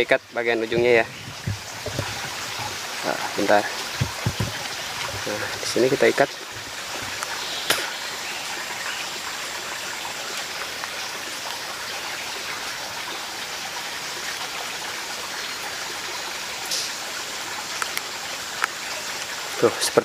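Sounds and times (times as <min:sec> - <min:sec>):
stream running: 0:00.0 - 0:20.0.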